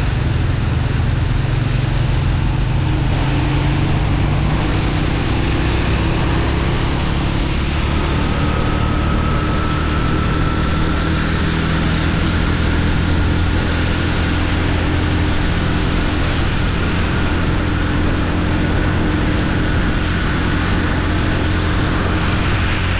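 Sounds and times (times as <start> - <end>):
faint high whine rising: 0.0 - 22.9
motorcycle engine running: 0.0 - 22.9
rushing noise: 0.0 - 22.9.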